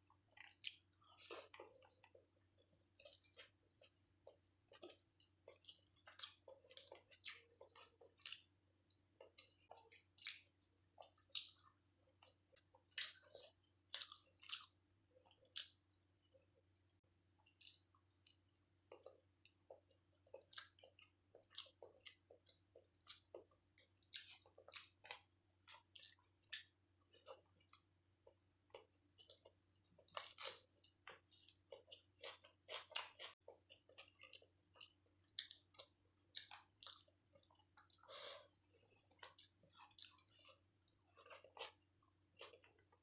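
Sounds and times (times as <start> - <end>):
person chewing: 0.2 - 43.0.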